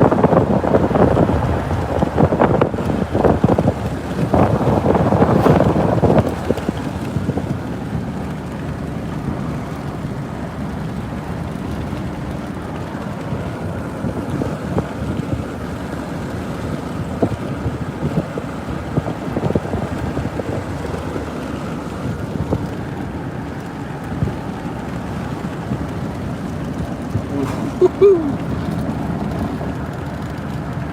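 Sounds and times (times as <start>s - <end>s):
car road noise: 0.0s - 30.9s
strong wind: 0.0s - 30.9s.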